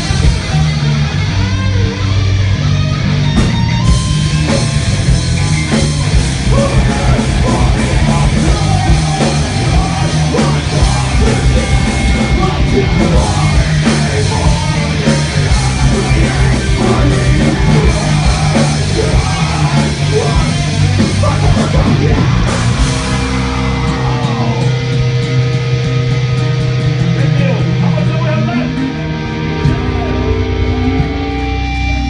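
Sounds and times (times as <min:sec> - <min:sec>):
heavy metal band playing: 0:00.0 - 0:32.0.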